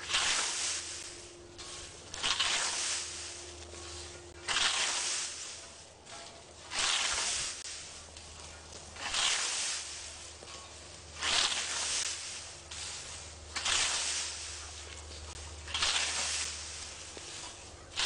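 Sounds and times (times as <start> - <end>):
scythe swishing through dry grass: 0.0 - 18.0.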